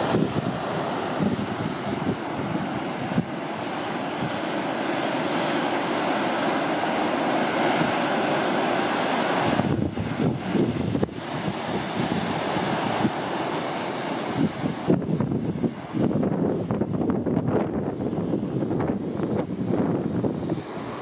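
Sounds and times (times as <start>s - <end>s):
ocean surf breaking over rocks: 0.0s - 21.0s
wind on microphone: 0.0s - 21.0s.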